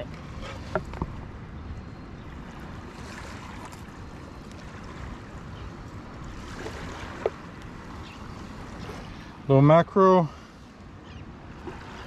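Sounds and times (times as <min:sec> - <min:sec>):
waves washing on shore: 0:02.3 - 0:12.0.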